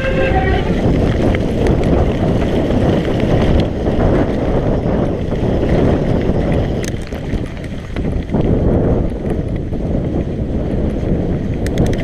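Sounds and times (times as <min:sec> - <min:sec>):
bike rumbling and rattling: 0:00.0 - 0:12.0
wind buffeting microphone: 0:00.0 - 0:12.0.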